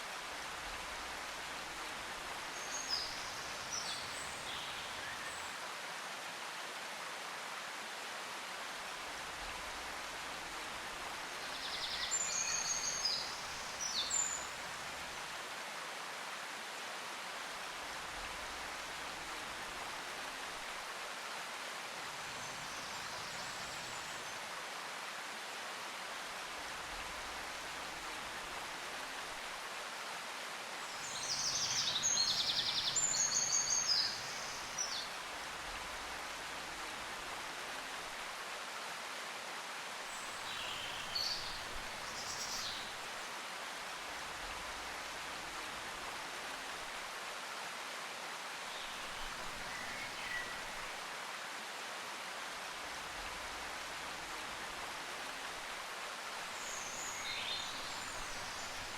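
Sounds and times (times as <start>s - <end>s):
running water rush: 0.0s - 58.9s.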